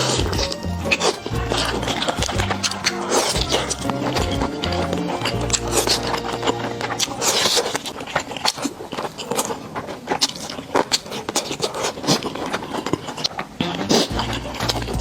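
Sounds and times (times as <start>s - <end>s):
close chewing mouth sounds: 0.0s - 15.0s.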